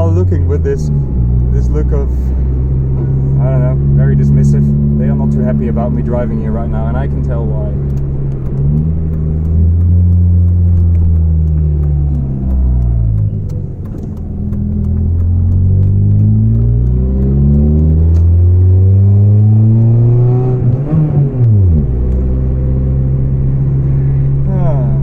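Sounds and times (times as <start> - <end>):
car engine through leaking exhaust: 0.0 - 25.0.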